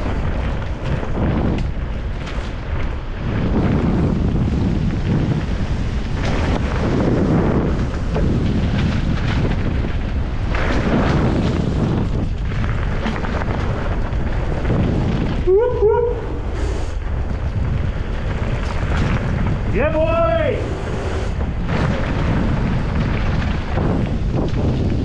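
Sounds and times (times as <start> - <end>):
bike tyres rumbling on trail: 0.0 - 25.0
wind buffeting microphone: 0.0 - 25.0.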